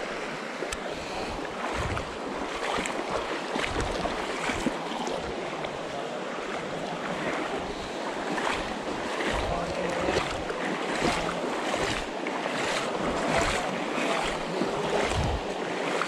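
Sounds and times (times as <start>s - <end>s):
river water rushing: 0.0s - 16.0s
splashes and low thuds: 0.7s - 5.4s, 7.1s - 16.0s.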